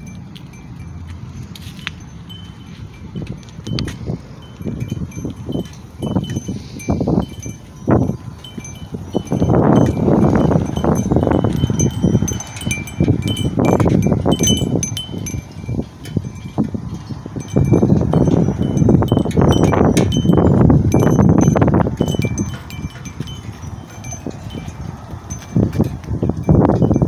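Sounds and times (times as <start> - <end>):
metal wind chimes ringing: 0.0 - 27.0
wind gusts on microphone: 0.0 - 27.0.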